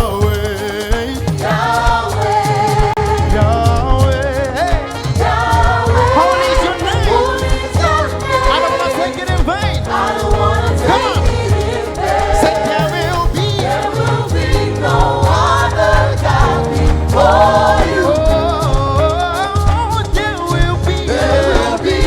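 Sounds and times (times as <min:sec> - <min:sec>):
band with bass and drums: 0:00.0 - 0:22.0
choir singing: 0:00.0 - 0:22.0.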